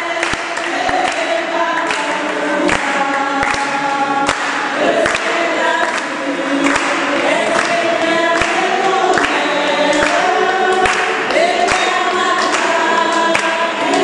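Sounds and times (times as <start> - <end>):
congregation singing a hymn: 0.0 - 14.0
hand claps: 0.0 - 14.0.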